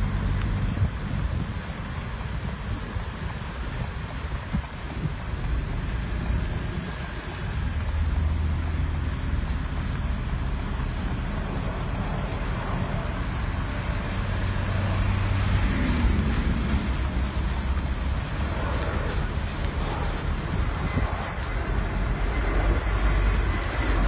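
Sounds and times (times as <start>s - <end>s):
car engine drone: 0.0s - 24.0s
road noise rumble: 0.0s - 24.0s.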